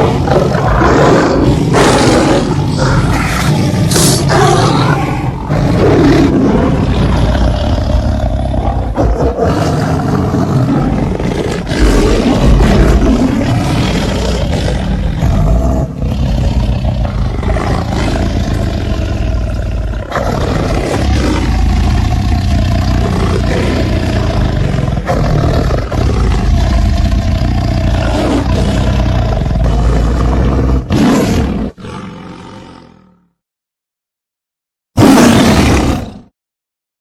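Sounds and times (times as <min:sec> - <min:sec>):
tiger roaring and growling: 0:00.0 - 0:33.4, 0:35.0 - 0:36.3.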